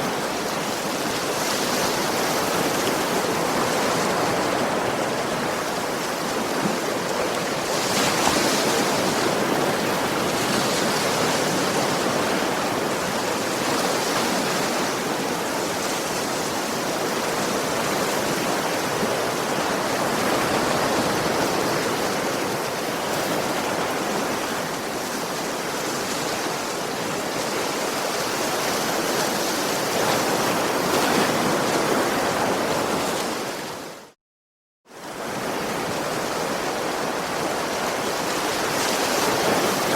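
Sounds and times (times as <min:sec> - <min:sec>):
waves washing onto beach: 0:00.0 - 0:34.2, 0:34.9 - 0:39.9.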